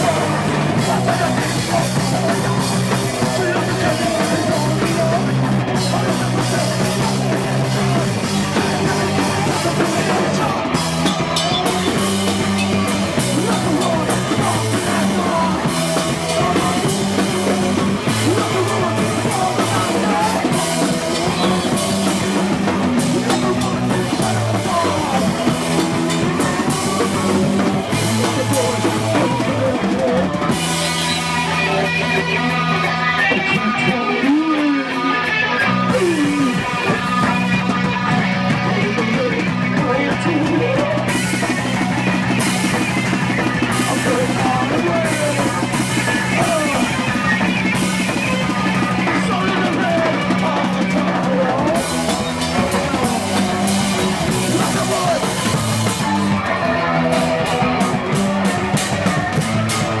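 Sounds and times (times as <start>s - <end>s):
drum kit beating: 0.0s - 60.0s
electric guitar and bass: 0.0s - 60.0s.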